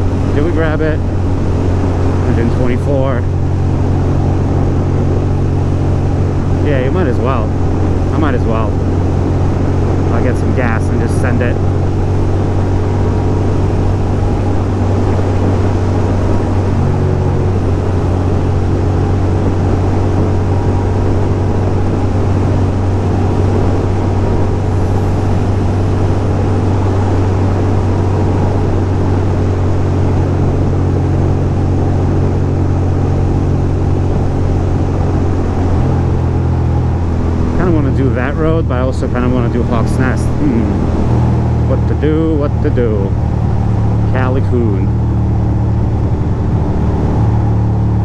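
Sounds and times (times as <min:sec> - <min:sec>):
motorcycle engine cruising: 0:00.0 - 0:48.0
wind and road noise: 0:00.0 - 0:48.0.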